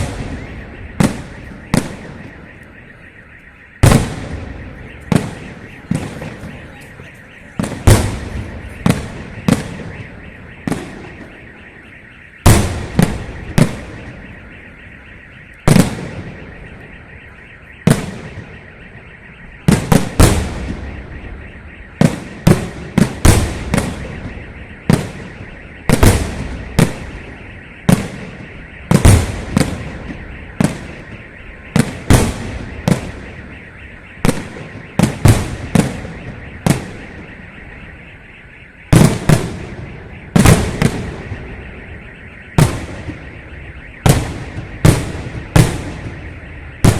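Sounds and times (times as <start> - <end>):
firework bangs with echo: 0.0 - 2.6, 3.7 - 17.0, 17.8 - 18.8, 19.4 - 46.9.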